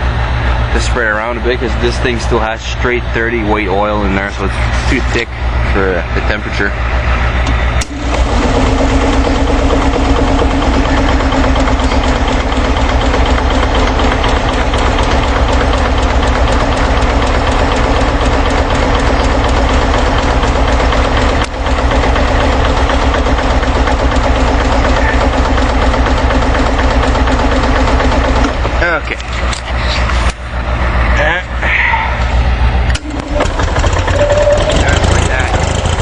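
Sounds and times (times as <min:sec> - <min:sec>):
tractor engine cranking: 0:00.7 - 0:31.6, 0:32.2 - 0:36.0.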